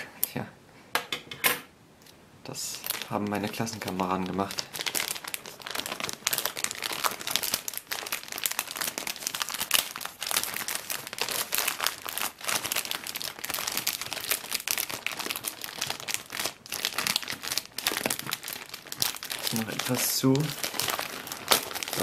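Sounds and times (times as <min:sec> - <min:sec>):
plastic wrapper crinkling: 0:02.7 - 0:22.0.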